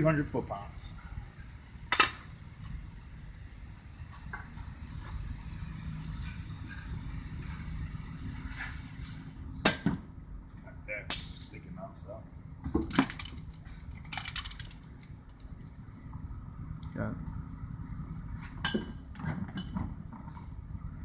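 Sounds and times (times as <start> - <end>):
low shop hum: 0.0 - 21.0.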